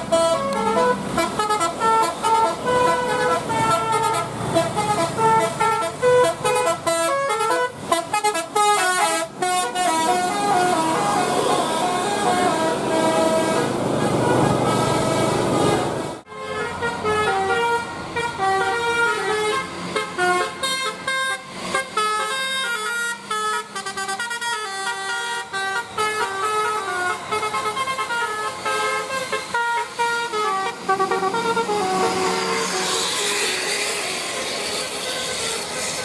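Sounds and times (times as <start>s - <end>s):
multi-trumpet bus horn tune: 0.0s - 36.0s.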